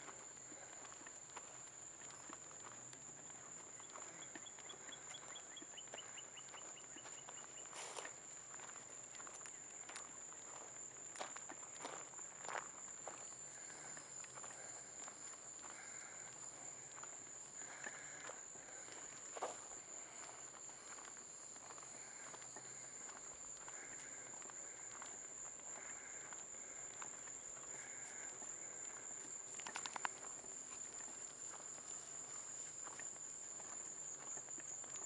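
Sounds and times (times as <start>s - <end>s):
crickets chirping: 0.0s - 35.0s
soft footsteps on road: 0.0s - 35.0s.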